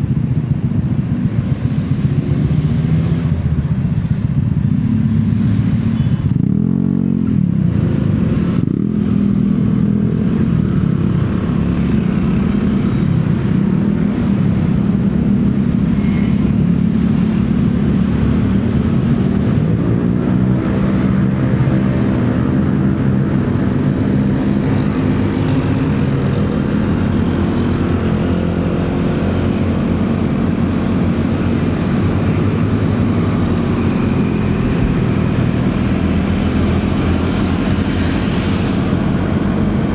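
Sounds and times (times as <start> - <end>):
city traffic: 0.0 - 39.9
motorcycle engine running: 0.0 - 39.9.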